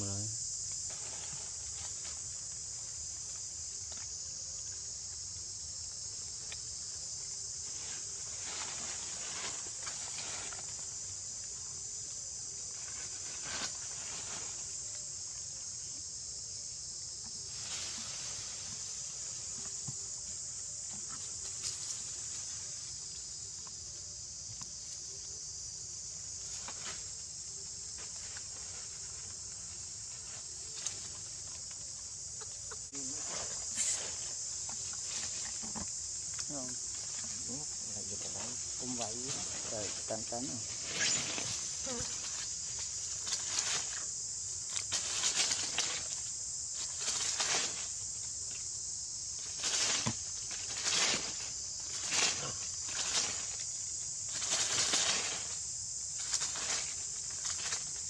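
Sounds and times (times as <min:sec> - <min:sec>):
brief louder insect calls: 0:00.0 - 0:58.0
high-pitched insect chorus: 0:00.0 - 0:58.0.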